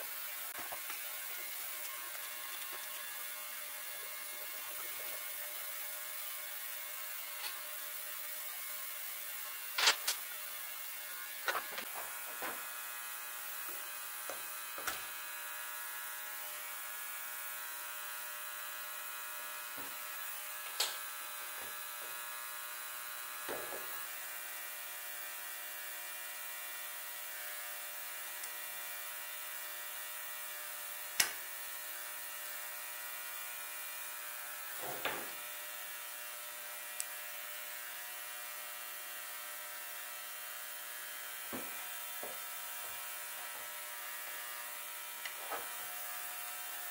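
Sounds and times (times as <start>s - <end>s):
steady buzzing hum: 0.0s - 46.9s.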